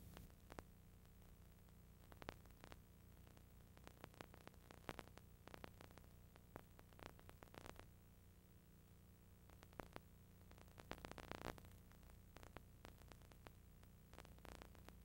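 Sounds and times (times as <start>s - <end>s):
faint hum and hiss: 0.0s - 15.0s.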